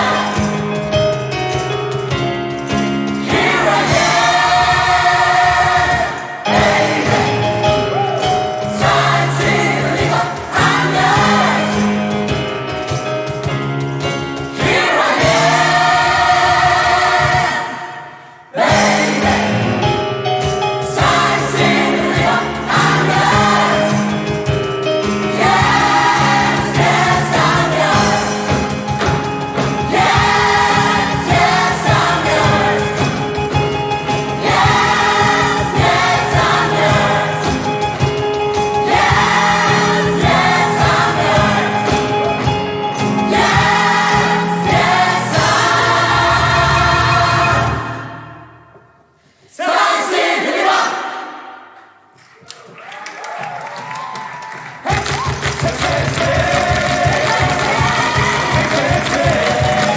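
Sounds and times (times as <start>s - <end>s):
steady rhythmic beat: 0.0s - 17.8s, 18.6s - 47.9s, 54.9s - 59.9s
gospel choir singing: 0.0s - 52.2s, 54.8s - 59.9s.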